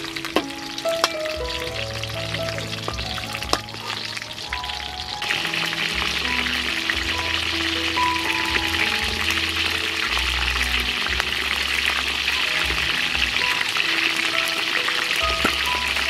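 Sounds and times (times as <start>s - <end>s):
background music with bass: 0.0s - 16.0s
chicken deep-frying in oil: 0.0s - 16.0s.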